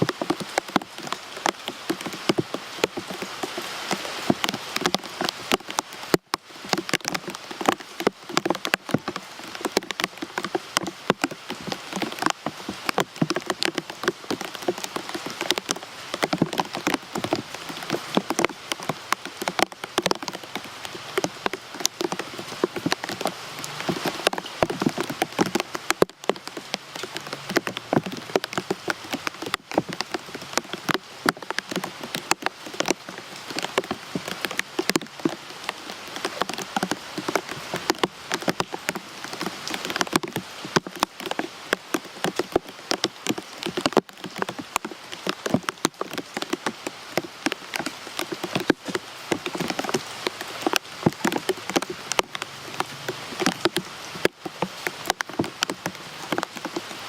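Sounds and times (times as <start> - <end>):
rain drops striking a surface: 0.0 - 57.0.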